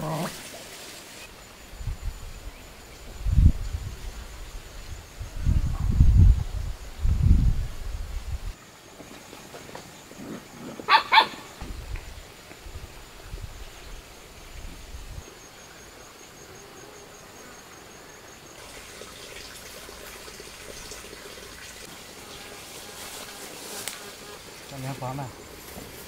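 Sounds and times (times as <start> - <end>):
faint outdoor background: 0.0 - 26.0.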